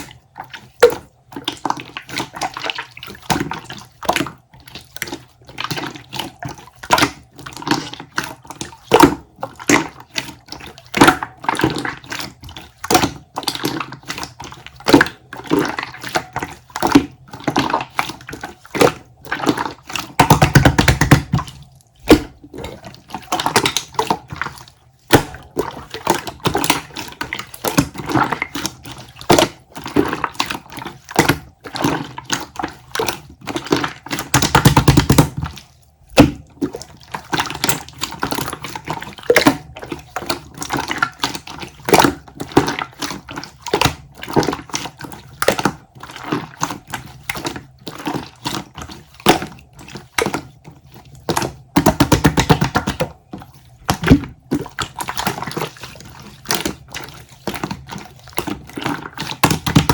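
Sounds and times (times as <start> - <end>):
water sounds: 0.0 - 59.9.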